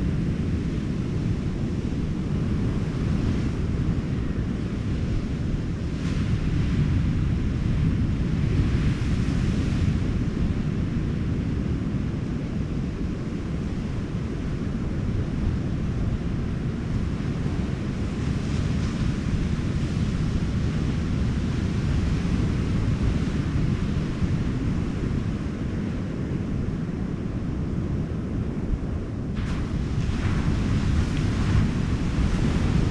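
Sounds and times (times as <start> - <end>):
wind rumbling on microphone: 0.0 - 32.9.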